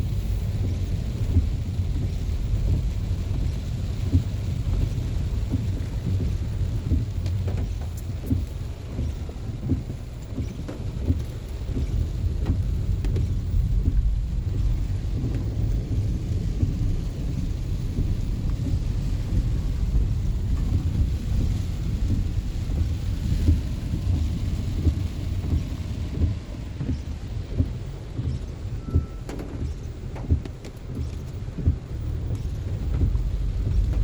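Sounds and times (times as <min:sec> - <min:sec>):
deep rumble: 0:00.0 - 0:34.0
steady rain: 0:00.0 - 0:34.0.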